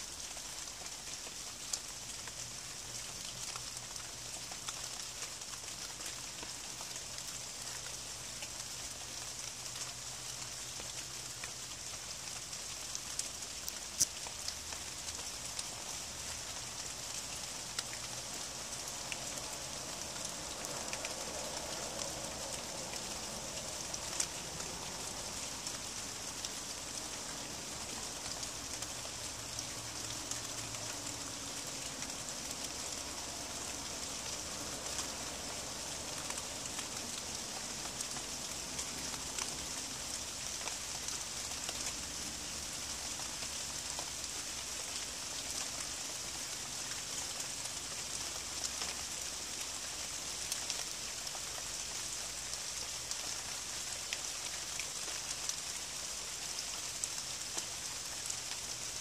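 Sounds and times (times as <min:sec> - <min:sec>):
raindrop ticks: 0:00.0 - 0:59.0
steady rain hiss: 0:00.0 - 0:59.0.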